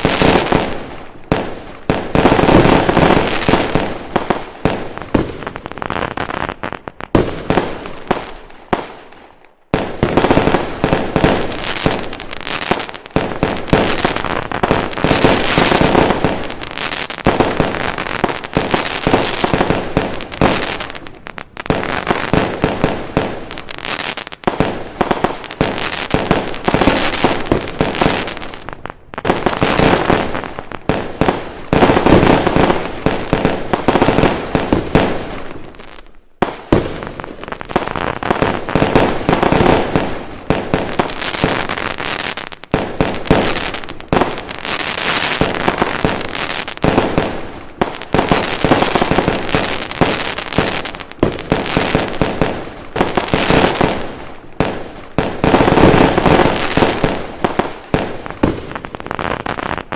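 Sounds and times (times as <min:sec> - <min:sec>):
fireworks banging and crackling: 0:00.0 - 0:59.9.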